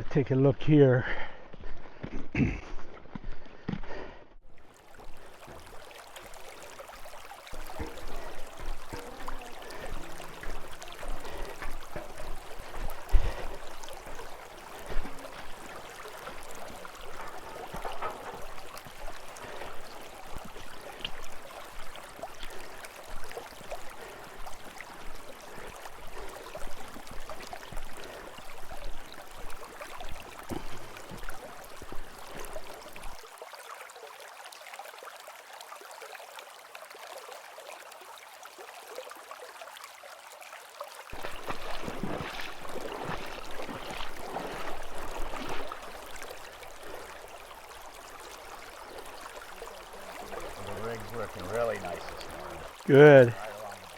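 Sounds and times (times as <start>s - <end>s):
river water rushing: 4.6s - 53.9s.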